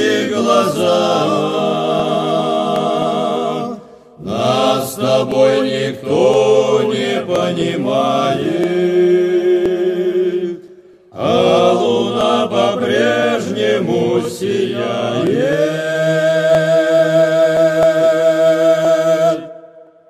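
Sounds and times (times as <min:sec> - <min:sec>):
male choir singing in harmony: 0:00.0 - 0:20.0.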